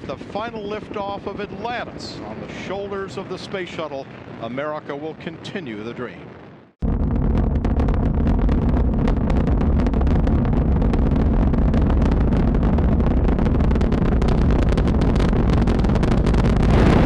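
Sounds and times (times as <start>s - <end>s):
rocket engines rumbling and crackling: 0.0s - 17.0s.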